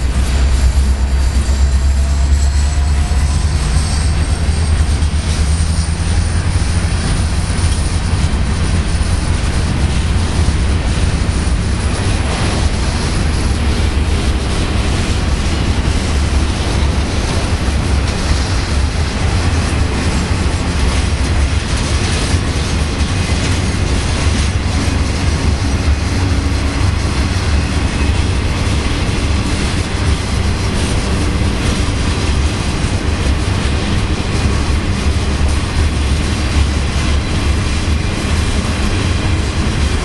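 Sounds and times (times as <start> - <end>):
freight train wheels clattering on rails: 0.0 - 40.0.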